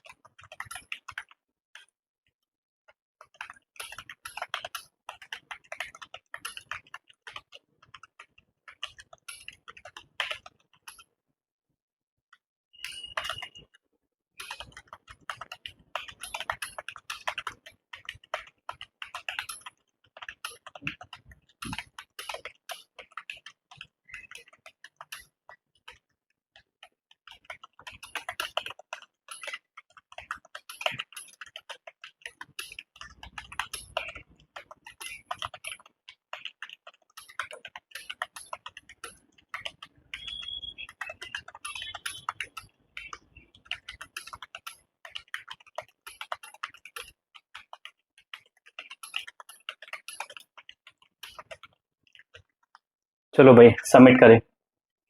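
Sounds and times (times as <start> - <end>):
keyboard typing: 0.0 - 1.9, 3.2 - 11.1, 12.8 - 13.8, 14.4 - 54.4.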